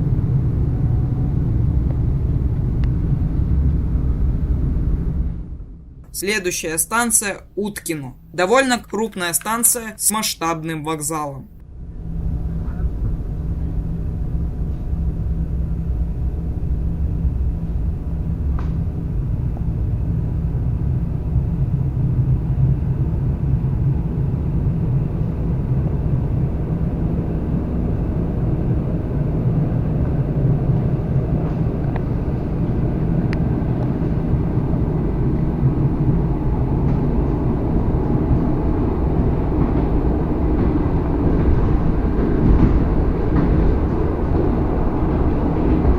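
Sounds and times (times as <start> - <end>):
train wheels rumbling on rails: 0.0 - 6.6, 11.9 - 45.9.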